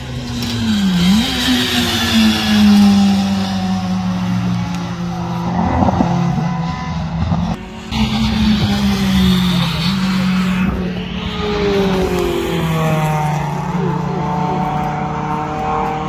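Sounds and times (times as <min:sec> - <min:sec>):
rally car engine under load: 0:00.0 - 0:16.0.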